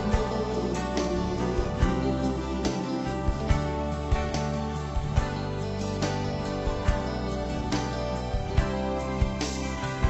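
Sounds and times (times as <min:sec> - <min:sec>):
instrumental backing track: 0:00.0 - 0:10.0.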